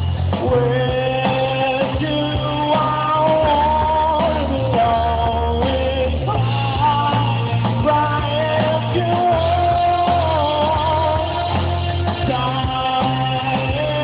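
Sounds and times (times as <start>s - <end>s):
rock band playing: 0.0s - 14.0s
sliding lead guitar melody: 0.0s - 14.0s.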